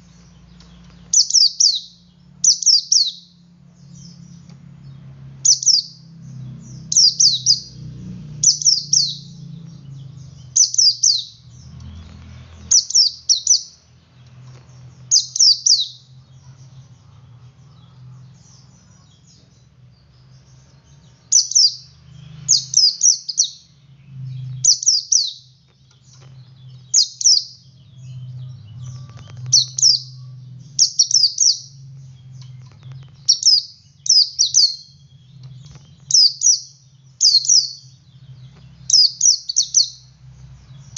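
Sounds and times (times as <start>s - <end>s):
bird singing high sweeping notes: 0.0s - 40.9s
faint low hum: 0.0s - 40.9s.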